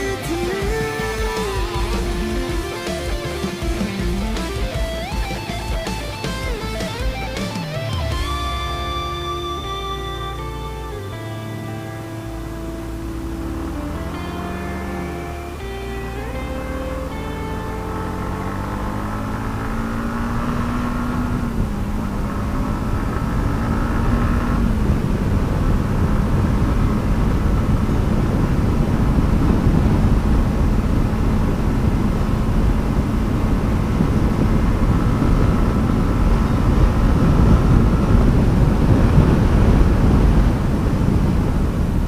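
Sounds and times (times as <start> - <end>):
motorcycle engine running: 0.0 - 42.0
wind rushing: 0.0 - 42.0.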